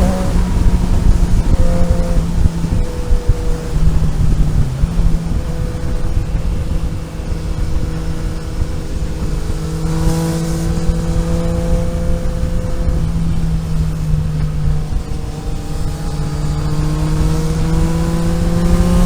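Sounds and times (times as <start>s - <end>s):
road and wind rumble: 0.0s - 19.0s
vehicle engine running: 0.0s - 19.0s.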